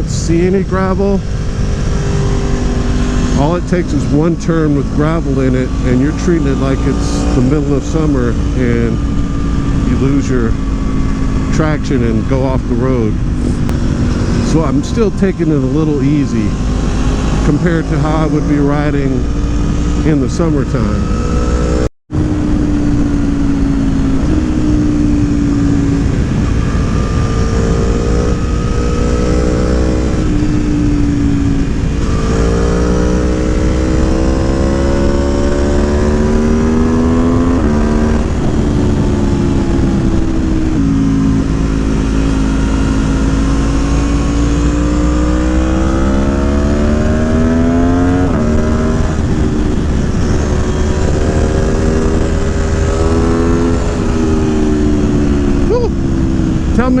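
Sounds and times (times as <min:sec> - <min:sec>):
motorcycle engine accelerating: 0:00.0 - 0:57.0
road rumble: 0:00.0 - 0:57.0
wind: 0:00.0 - 0:57.0.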